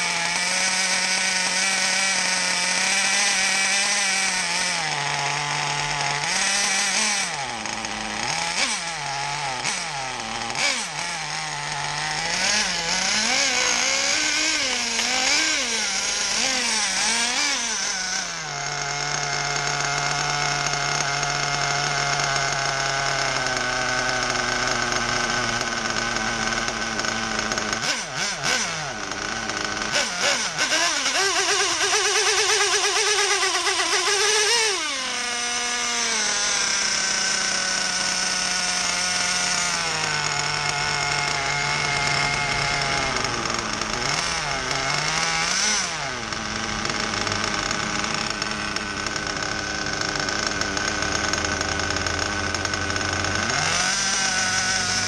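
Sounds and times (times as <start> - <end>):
small two-stroke engine running: 0.0 - 55.0.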